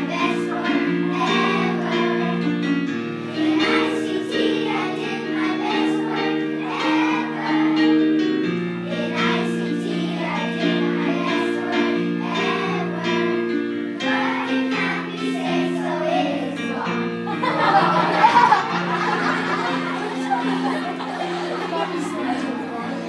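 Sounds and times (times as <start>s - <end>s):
children singing: 0.0s - 23.0s
held accompaniment chords: 0.0s - 23.0s.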